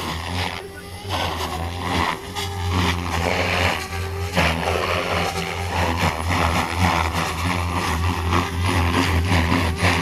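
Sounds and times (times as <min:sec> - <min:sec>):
rc helicopter rotor buzzing: 0:00.0 - 0:10.0.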